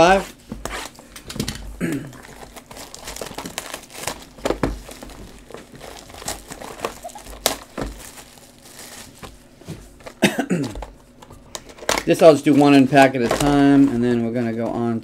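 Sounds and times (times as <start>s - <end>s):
cellophane crinkling: 2.0s - 15.0s.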